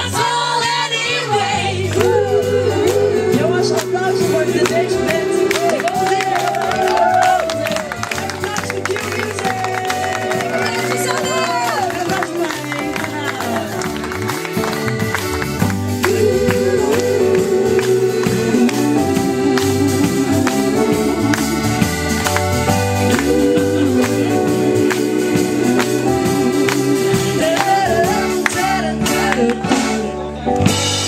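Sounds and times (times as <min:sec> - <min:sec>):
organ-like keyboard notes: 0:00.0 - 0:31.0
steady drum beat: 0:01.8 - 0:30.1.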